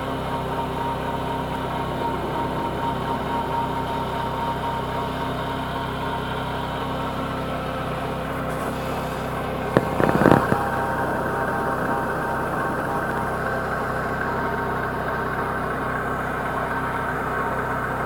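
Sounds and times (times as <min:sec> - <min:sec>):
belt drive whine: 0:00.0 - 0:15.6
car engine idling: 0:00.0 - 0:18.0.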